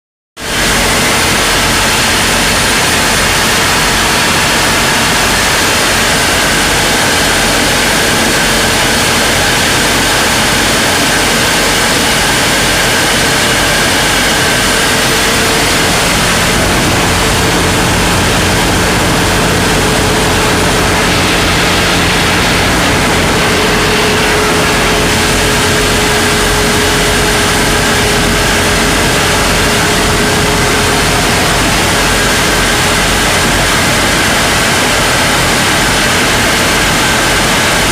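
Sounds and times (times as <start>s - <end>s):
ship engine droning: 0.4s - 37.9s.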